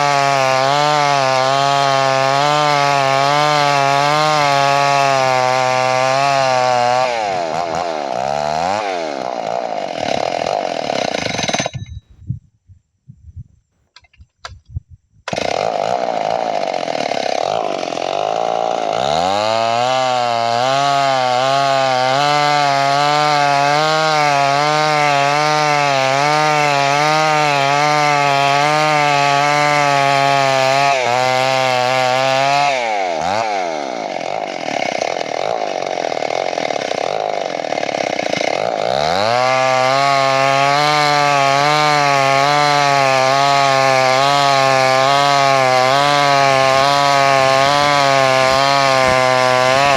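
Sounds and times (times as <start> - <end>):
chainsaw cutting through log: 0.0 - 11.8, 15.3 - 49.9.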